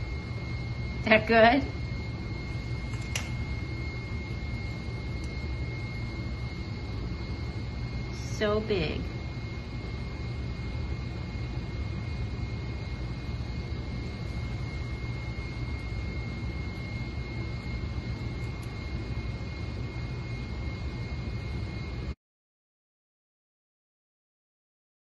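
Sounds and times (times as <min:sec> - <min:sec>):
low mechanical drone: 0:00.0 - 0:22.2
thin high whine: 0:00.0 - 0:22.2.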